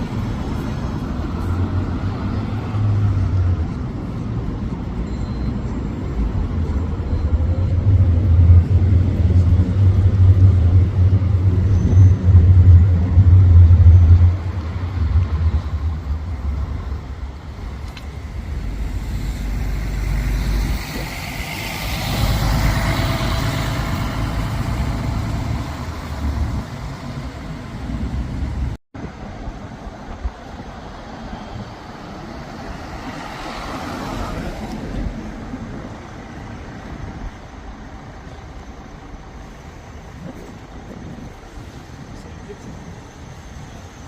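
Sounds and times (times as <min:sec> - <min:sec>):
bus passing with engine rumble: 0:00.0 - 0:44.0.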